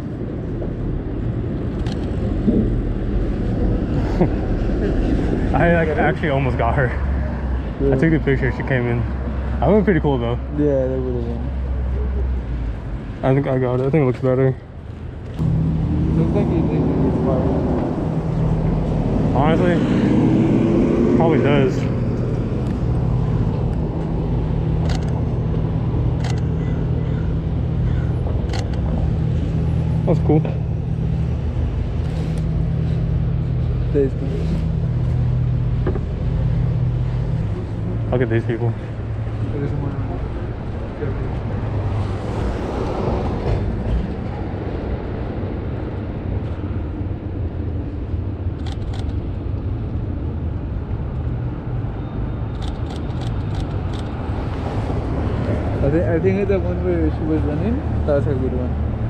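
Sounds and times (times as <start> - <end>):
vehicle engine hum: 0.0 - 59.0.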